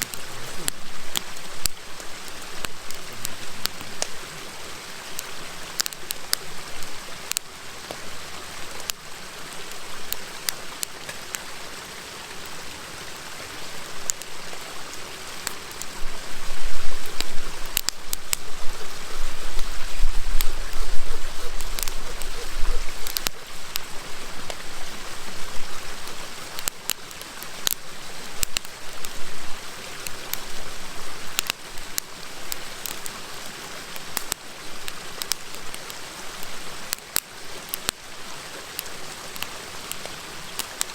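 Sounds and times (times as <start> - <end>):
campfire crackling and popping: 0.0 - 40.9
river rushing: 0.0 - 40.9.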